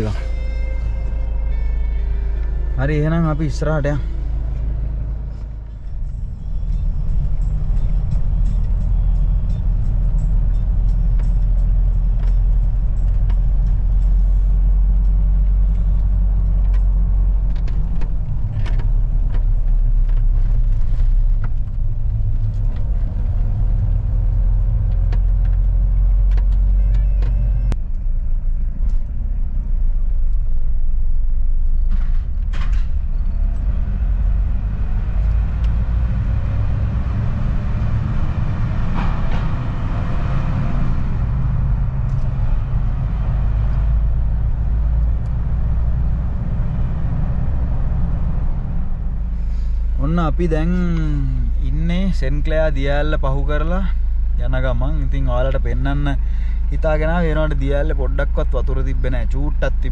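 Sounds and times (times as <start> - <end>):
engine and road rumble: 0.0 - 59.9.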